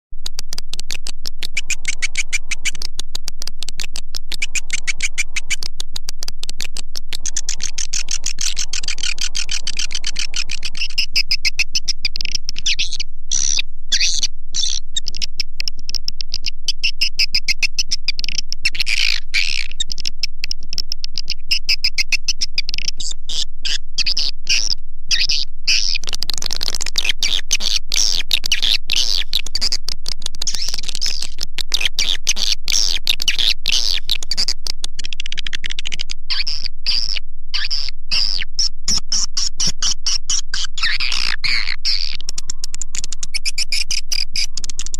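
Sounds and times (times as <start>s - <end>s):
faint low hum: 0.2s - 44.9s
rapid high bird chirps: 0.7s - 44.9s.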